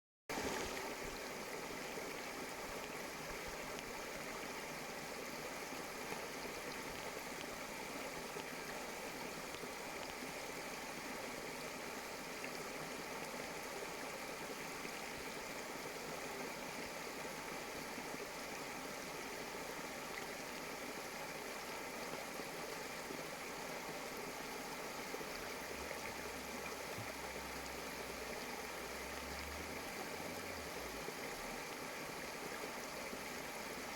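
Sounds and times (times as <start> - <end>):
stream water rushing: 0.3 - 33.9.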